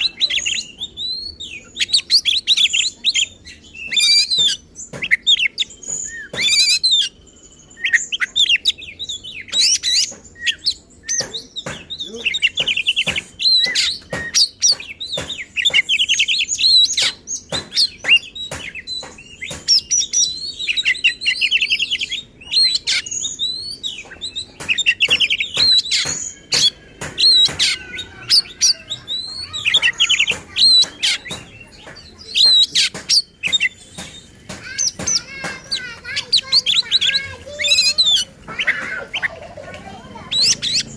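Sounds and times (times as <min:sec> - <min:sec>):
bird harsh clicking notes: 0:00.0 - 0:40.9
bird singing trills and whistles: 0:00.0 - 0:40.9.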